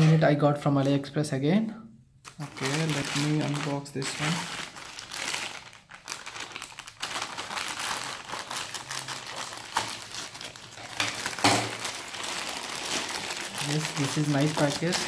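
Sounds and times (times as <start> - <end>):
plastic bag crinkling: 2.3 - 15.0.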